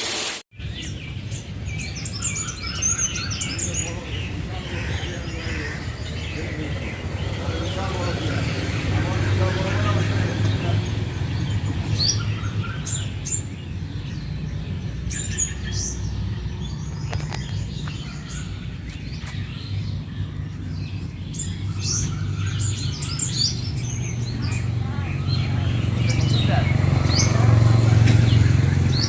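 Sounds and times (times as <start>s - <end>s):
birds chirping: 0.5s - 29.0s.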